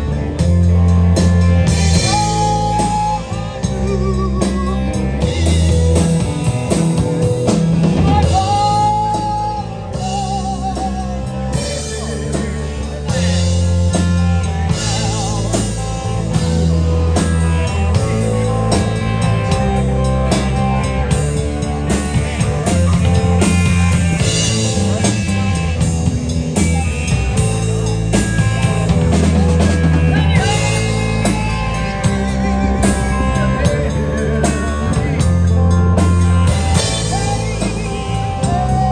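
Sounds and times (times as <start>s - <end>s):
bass line: 0.0s - 38.9s
live rock band playing: 0.0s - 38.9s.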